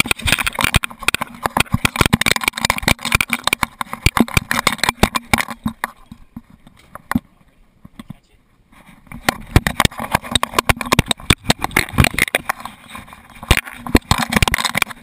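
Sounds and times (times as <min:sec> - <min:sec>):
camera mount rattling and knocking: 0:00.0 - 0:07.2, 0:09.1 - 0:15.0.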